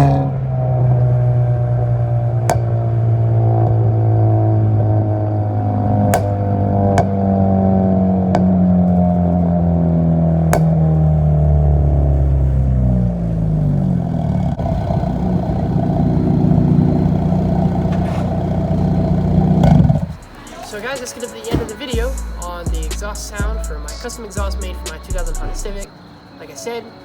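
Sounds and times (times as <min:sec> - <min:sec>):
car exhaust note: 0:00.0 - 0:25.9.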